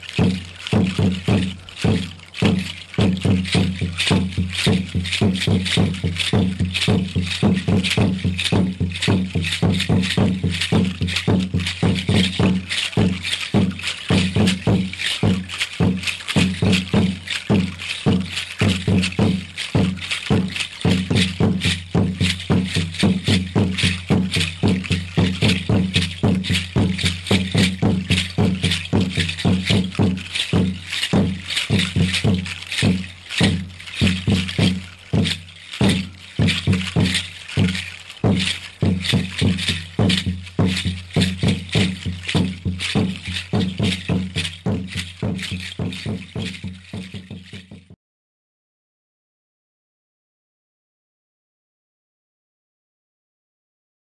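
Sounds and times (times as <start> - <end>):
seed rattles shaking: 0.0 - 47.9
drum beating fast rhythm: 0.0 - 48.0.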